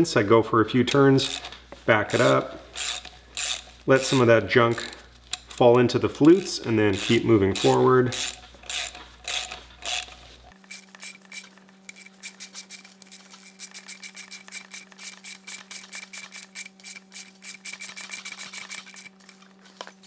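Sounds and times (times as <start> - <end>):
socket ratchet clicking: 0.9 - 19.4.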